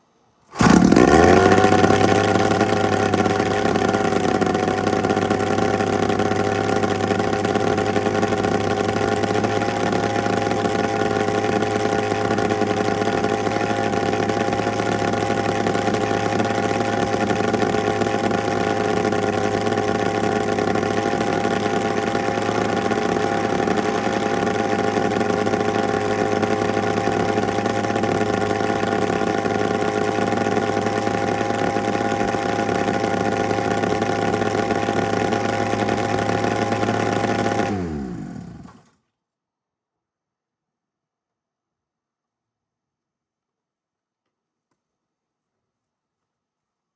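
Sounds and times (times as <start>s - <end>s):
drone engine running: 0.6s - 38.6s.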